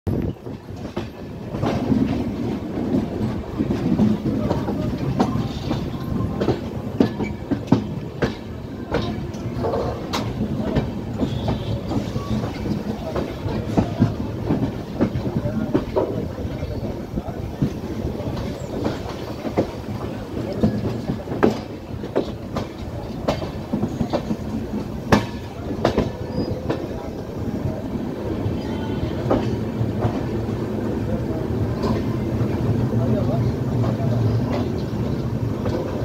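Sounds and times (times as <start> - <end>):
train wheels rumbling: 0.1 - 36.0
wheels clacking over rail joints: 0.1 - 36.0.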